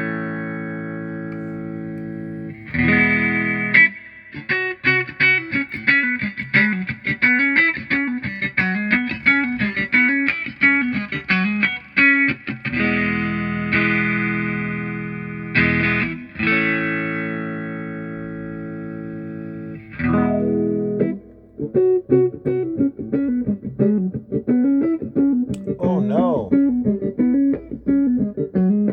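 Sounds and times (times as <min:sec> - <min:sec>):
electric guitar with wah: 0:00.0 - 0:28.9.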